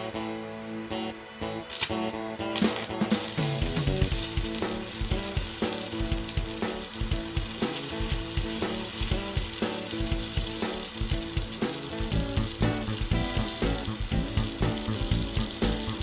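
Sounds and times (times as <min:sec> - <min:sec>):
arc welding crackling sizzle: 0:00.0 - 0:16.0
background music with beat: 0:00.0 - 0:16.0.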